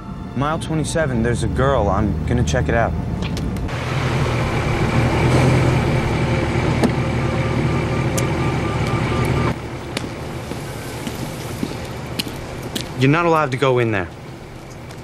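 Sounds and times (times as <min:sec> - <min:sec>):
engine rumble: 0:00.0 - 0:15.0
road and tyre noise: 0:00.0 - 0:15.0.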